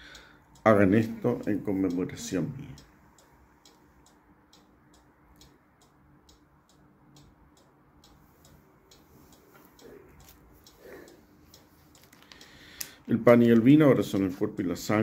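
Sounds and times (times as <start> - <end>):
faint regular ticking: 0.0 - 15.0
faint steady hum: 0.0 - 15.0.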